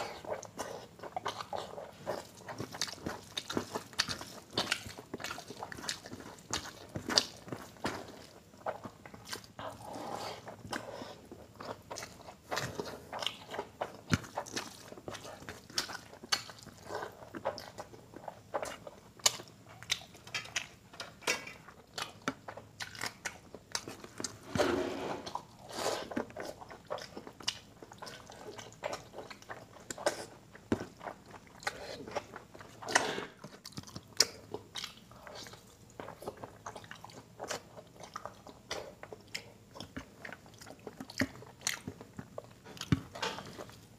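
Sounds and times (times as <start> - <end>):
wet chewing: 0.0 - 24.6, 25.2 - 43.9.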